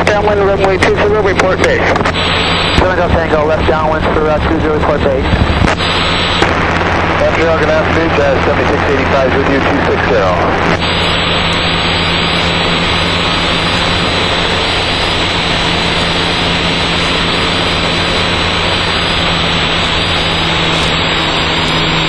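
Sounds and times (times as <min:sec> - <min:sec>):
airflow noise: 0:00.0 - 0:22.0
constant low hum: 0:00.0 - 0:22.0
muffled aircraft engine drone: 0:00.0 - 0:22.0.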